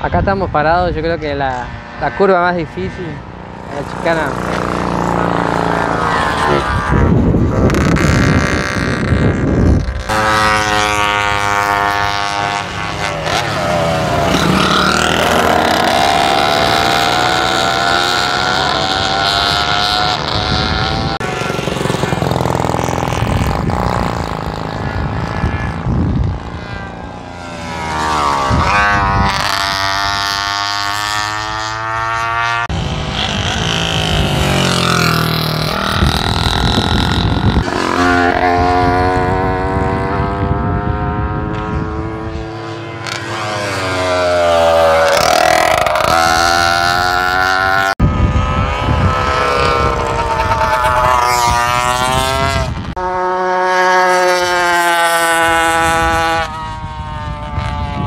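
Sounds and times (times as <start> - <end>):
racing motorcycles passing: 0.0 - 58.0.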